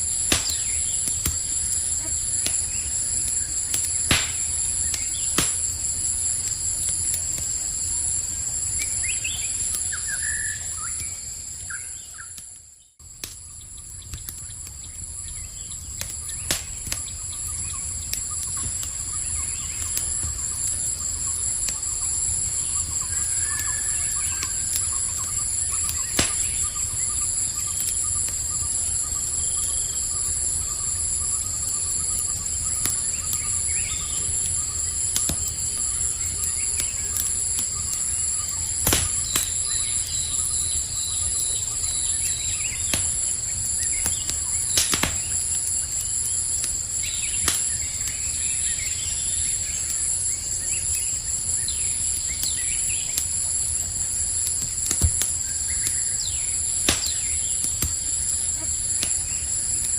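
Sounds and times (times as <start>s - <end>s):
campfire crackling and popping: 0.0s - 59.9s
insect chorus pulsing: 0.0s - 59.9s.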